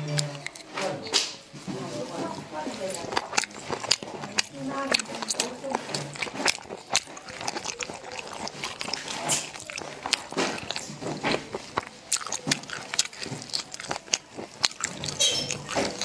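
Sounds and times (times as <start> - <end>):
wet chewing and sucking: 0.0 - 16.0.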